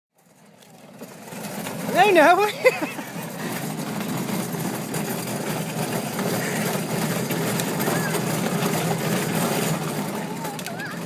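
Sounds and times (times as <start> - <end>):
pedal car wheels rolling: 0.2 - 11.0.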